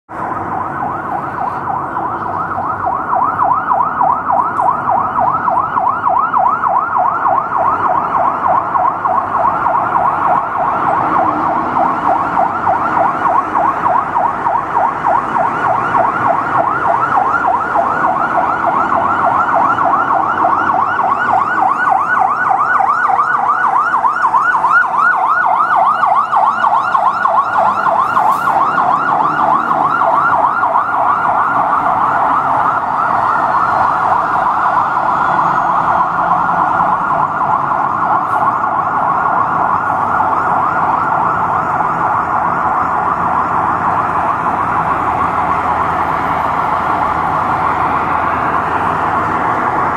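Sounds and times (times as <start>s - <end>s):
fire engine siren yelping: 0.1s - 49.9s.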